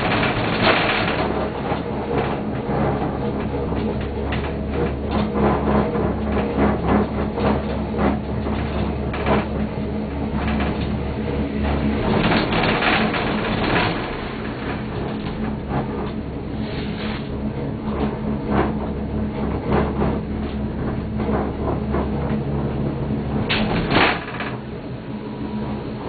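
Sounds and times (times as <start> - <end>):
gondola clicks and knocks: 0.0 - 26.0
rushing scraping noise: 0.0 - 26.0
steady low hum: 0.0 - 26.0.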